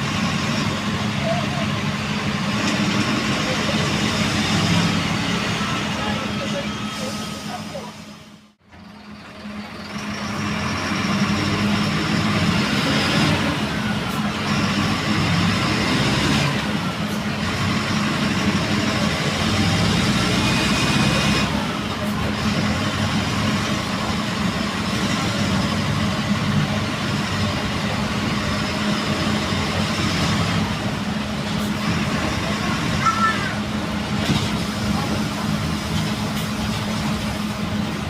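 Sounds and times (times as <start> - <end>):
bus diesel engine running: 0.0 - 38.0.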